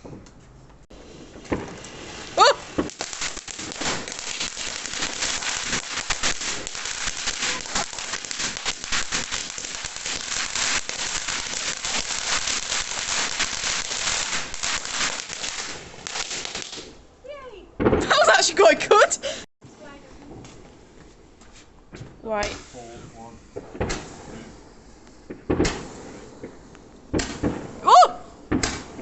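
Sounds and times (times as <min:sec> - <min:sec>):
firework fountain crackling: 0:00.9 - 0:17.1, 0:17.8 - 0:21.4, 0:22.2 - 0:29.0.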